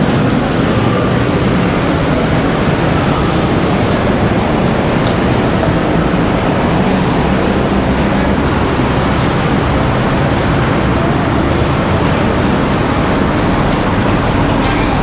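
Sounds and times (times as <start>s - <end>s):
vehicle rumble and rushing: 0.0s - 15.0s.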